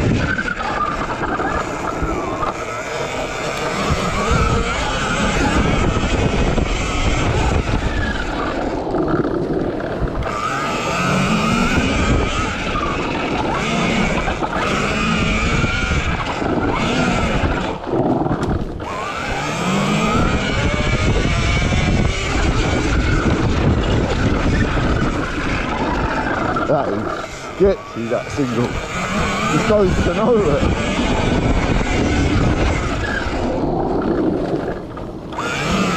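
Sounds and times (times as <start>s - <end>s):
electric motorbike motor whine: 0.0s - 35.9s
steady rushing noise: 0.0s - 35.9s.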